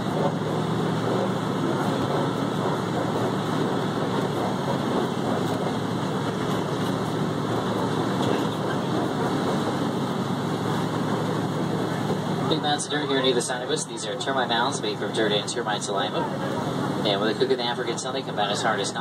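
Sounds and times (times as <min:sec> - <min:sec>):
truck engine rumbling: 0:00.0 - 0:19.0
tyres on dirt track: 0:00.0 - 0:19.0.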